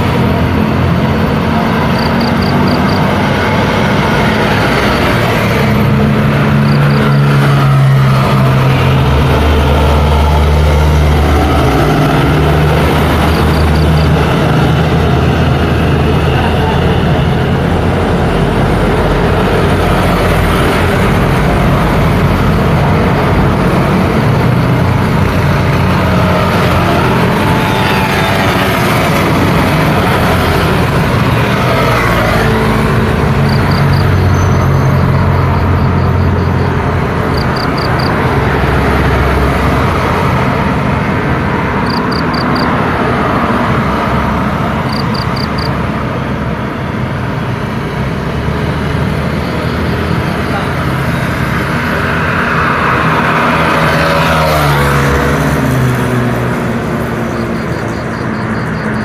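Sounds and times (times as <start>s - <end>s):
scooters and cars passing: 0.0s - 59.0s.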